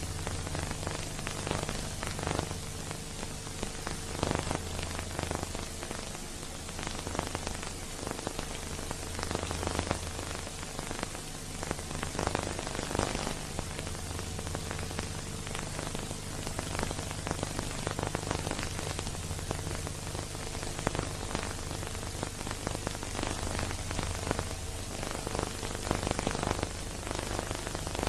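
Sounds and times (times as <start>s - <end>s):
film crackle and hiss: 0.0s - 28.0s
low steady hum: 0.0s - 28.0s.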